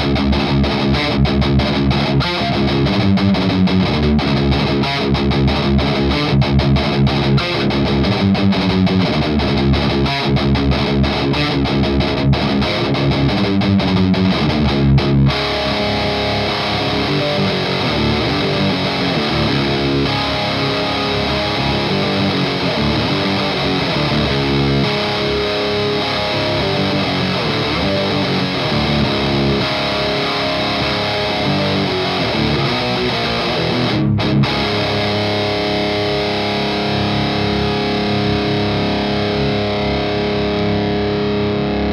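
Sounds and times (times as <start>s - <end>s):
distorted electric guitar riff: 0.0s - 41.9s.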